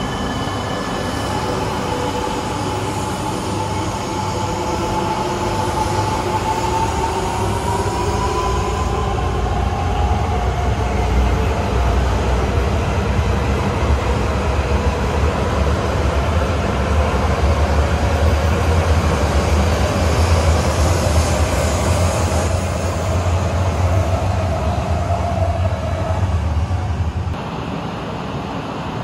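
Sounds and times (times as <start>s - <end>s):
train rumbling at low speed: 0.0s - 29.0s.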